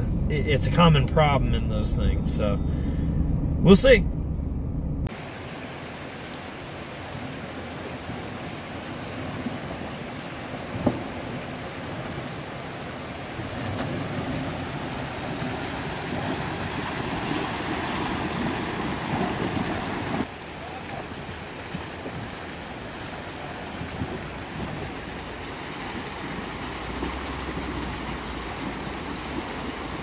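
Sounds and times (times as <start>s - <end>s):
water rushing and splashing: 5.1s - 30.0s.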